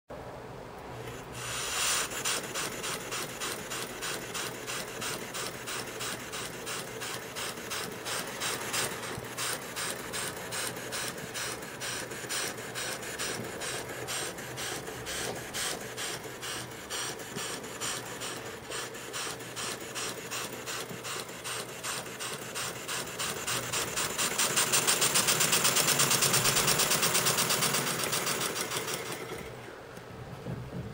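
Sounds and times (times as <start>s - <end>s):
small motor rattling: 1.0s - 29.7s.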